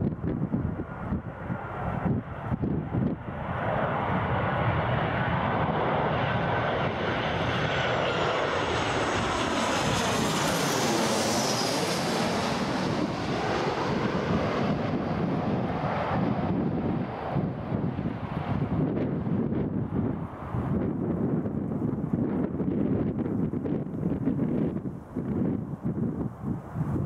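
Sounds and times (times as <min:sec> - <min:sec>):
jet engines roaring overhead: 0:00.0 - 0:27.0
wind buffeting microphone: 0:00.0 - 0:27.0.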